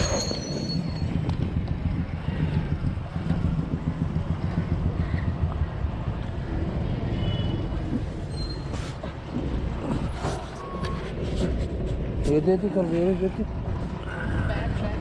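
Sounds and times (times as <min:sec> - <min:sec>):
vehicle and street rumble: 0:00.0 - 0:15.0.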